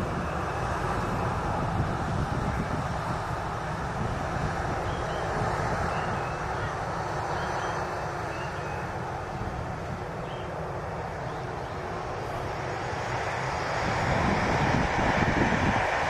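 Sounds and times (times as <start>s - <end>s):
turboprop engines running: 0.0s - 16.0s.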